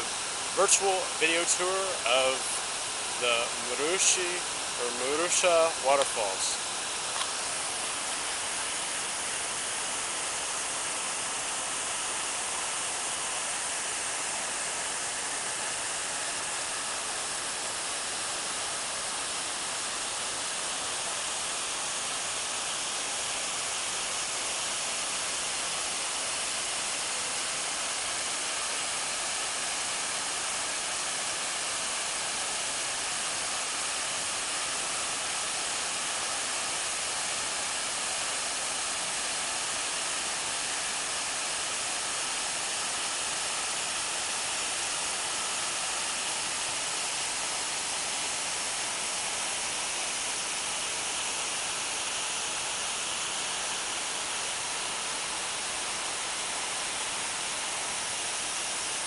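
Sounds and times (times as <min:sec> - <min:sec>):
waterfall pouring into pool: 0:00.0 - 0:59.0.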